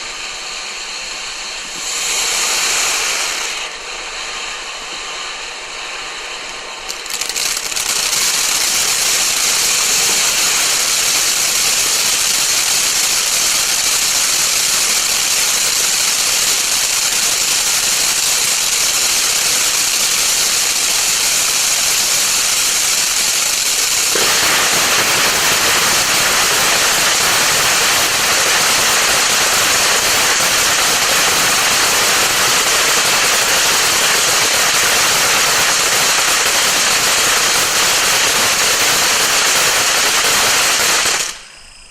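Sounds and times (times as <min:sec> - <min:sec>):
firework fountain hiss and crackle: 0:00.0 - 0:41.9.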